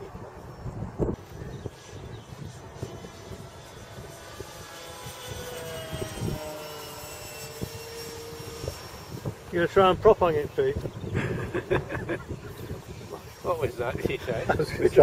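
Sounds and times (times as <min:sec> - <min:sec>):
model aeroplane motors whining: 0:00.0 - 0:15.0.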